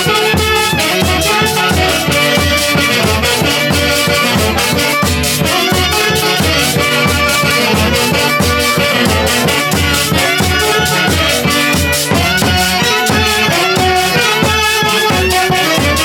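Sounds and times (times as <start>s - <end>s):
orchestra playing fast dance tune: 0.0s - 16.0s.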